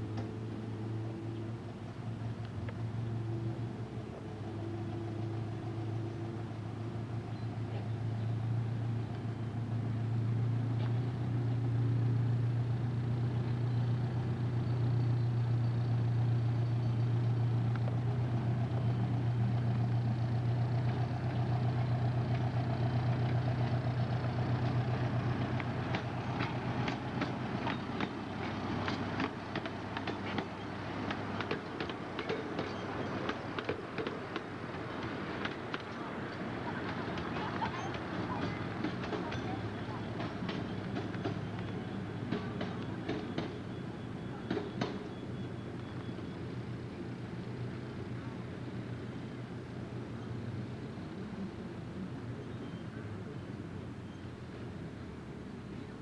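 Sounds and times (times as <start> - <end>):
train engine humming: 0.0 - 56.0.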